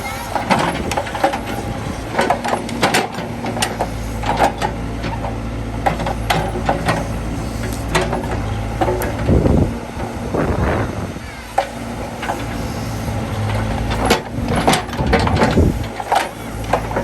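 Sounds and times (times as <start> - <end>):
backhoe engine running: 0.0 - 17.0.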